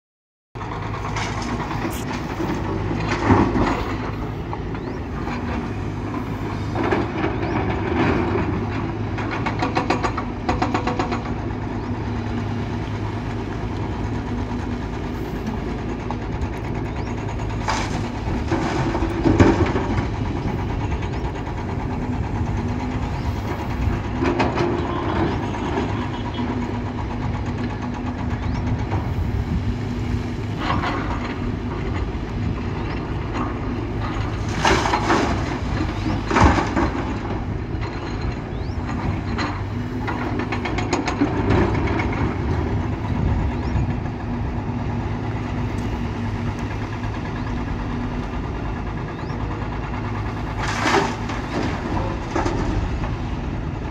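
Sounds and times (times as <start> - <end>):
excavator diesel engine running: 0.6 - 53.9.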